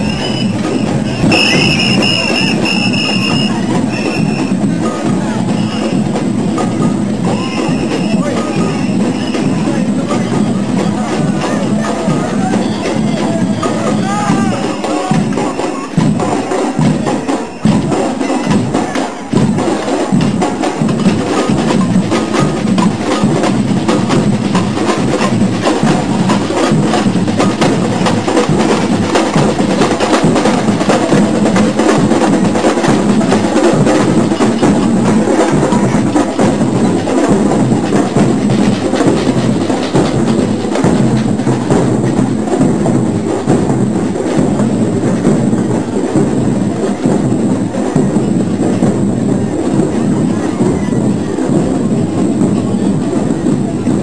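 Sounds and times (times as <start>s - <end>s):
percussion band drumming: 0.0s - 54.0s.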